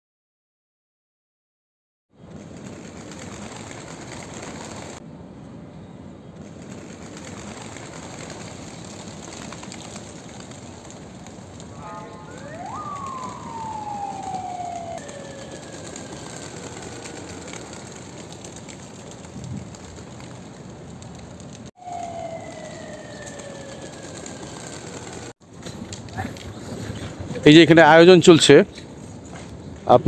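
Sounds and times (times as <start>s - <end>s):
steady background noise: 2.2s - 30.0s.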